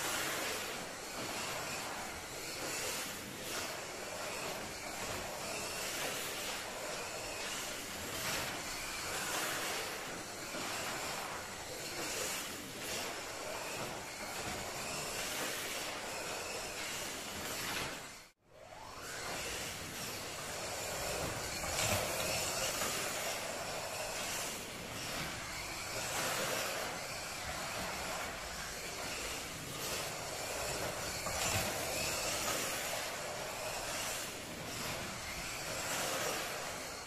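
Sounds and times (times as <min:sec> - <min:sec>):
slot car motor whine: 0:00.0 - 0:37.0.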